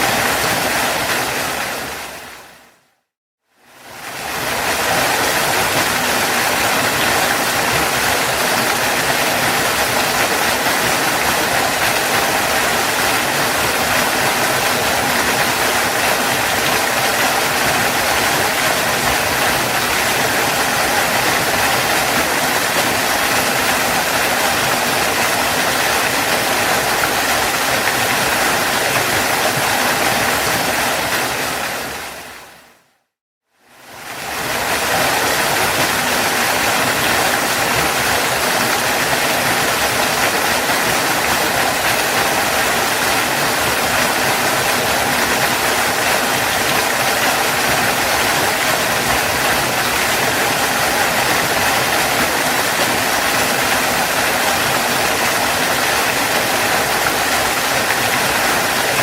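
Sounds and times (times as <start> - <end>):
waterfall rushing: 0.0 - 2.8, 3.6 - 32.8, 33.8 - 59.0.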